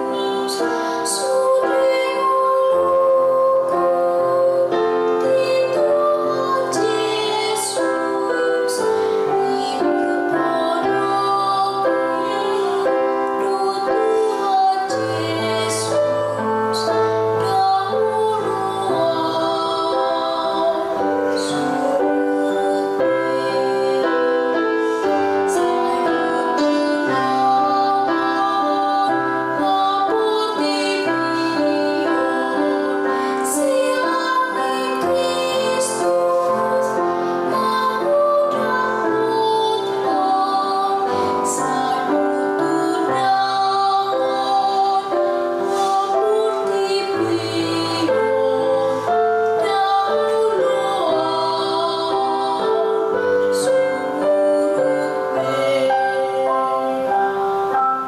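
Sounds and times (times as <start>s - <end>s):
girl singing: 0.0s - 57.8s
piano accompaniment: 0.0s - 58.0s.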